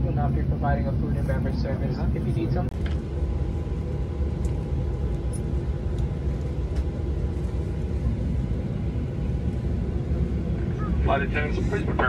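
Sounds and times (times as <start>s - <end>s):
airliner cabin rumble: 0.0s - 12.0s
faint steady whine: 0.0s - 12.0s.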